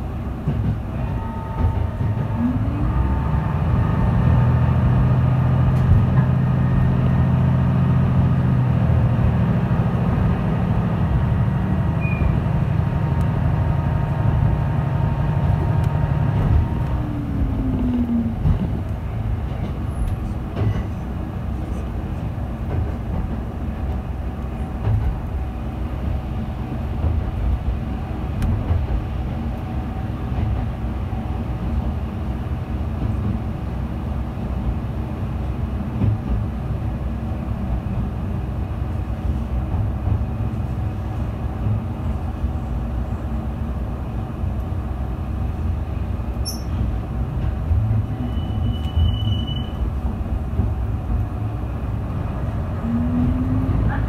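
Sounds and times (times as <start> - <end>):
railcar engine and wheels rumbling: 0.0 - 54.0.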